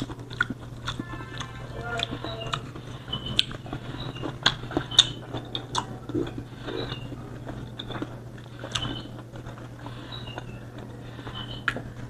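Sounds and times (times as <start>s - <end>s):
low steady hum: 0.0s - 12.0s
wet chewing mouth clicks: 0.0s - 12.0s.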